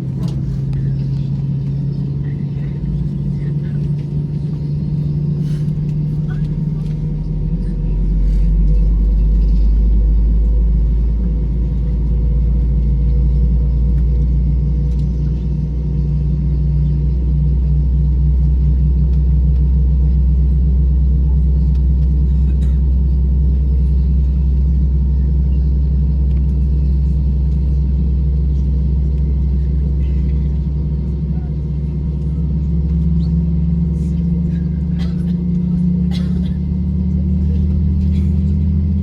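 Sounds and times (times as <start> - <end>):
airplane cabin rumble: 0.0 - 39.0
constant hum: 0.0 - 39.0.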